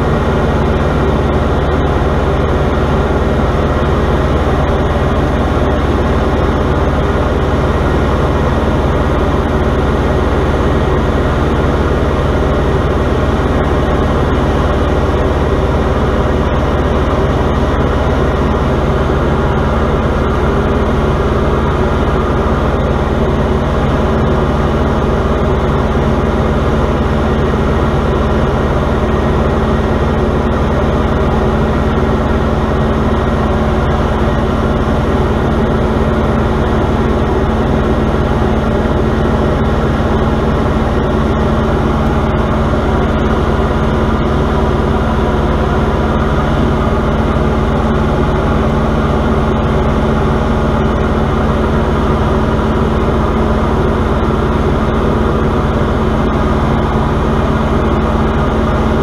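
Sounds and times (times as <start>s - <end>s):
propeller engine droning: 0.0s - 59.0s.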